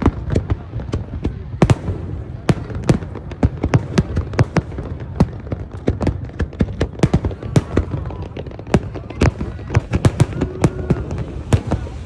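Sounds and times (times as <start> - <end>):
firework bangs: 0.0 - 12.0
low rumble of fireworks: 0.0 - 12.0.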